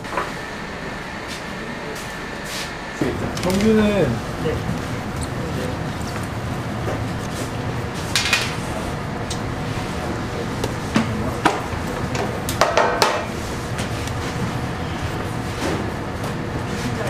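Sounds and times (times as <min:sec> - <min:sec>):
kitchen hum: 0:00.0 - 0:17.0.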